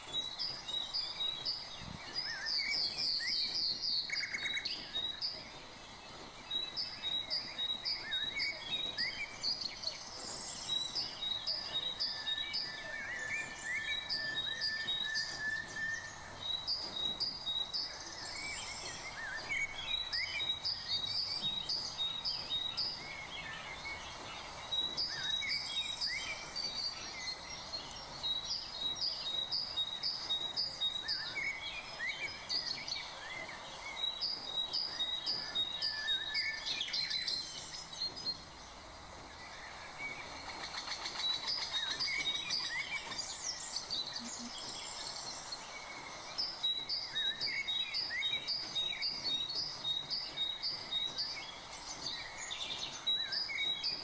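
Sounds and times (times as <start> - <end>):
birds chirping: 0.0 - 54.0
steady background hiss: 0.0 - 54.0.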